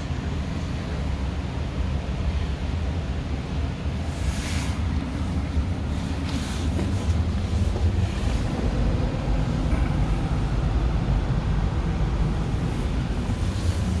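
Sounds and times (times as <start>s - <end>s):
furnace low rumble: 0.0s - 14.0s.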